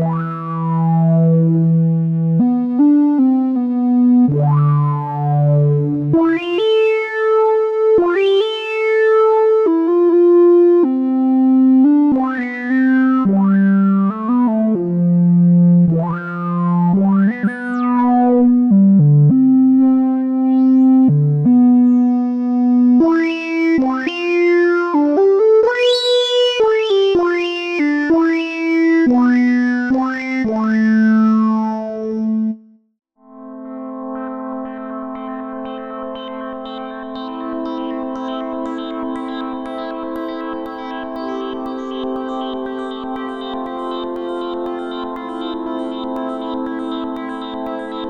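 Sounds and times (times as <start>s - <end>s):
buzzy synthesizer melody: 0.0s - 32.6s, 33.5s - 48.0s.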